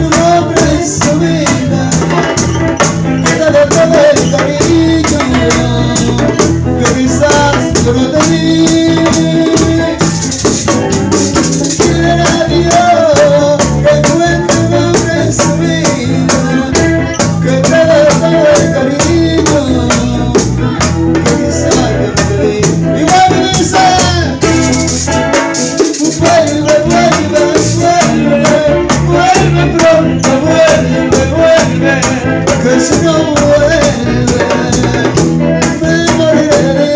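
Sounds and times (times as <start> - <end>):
bongo guitars and bass: 0.0 - 36.9.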